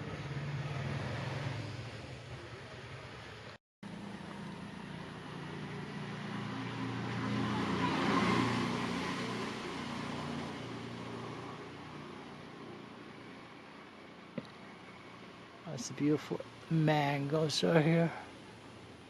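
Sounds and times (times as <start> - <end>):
motor vehicle passing: 0.0 - 16.8.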